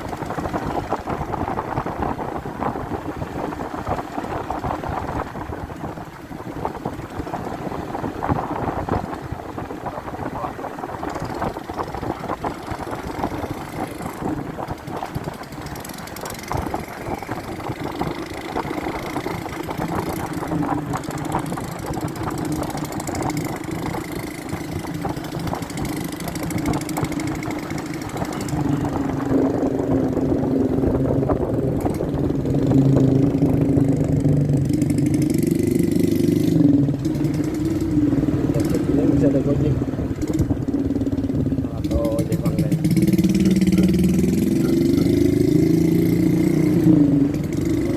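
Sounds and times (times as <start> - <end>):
motorcycle engine running: 0.0 - 47.9
wind and road rush: 0.0 - 47.9.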